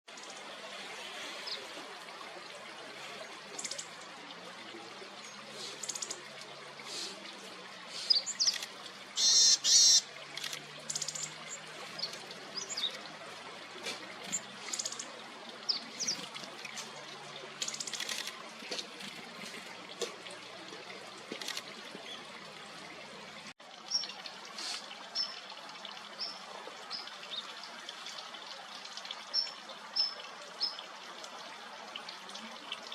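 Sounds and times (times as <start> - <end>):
running water trickling: 0.1 - 32.9.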